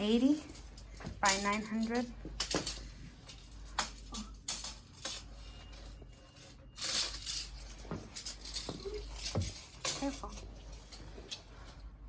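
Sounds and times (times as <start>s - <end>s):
hard objects clinking: 0.2s - 11.1s.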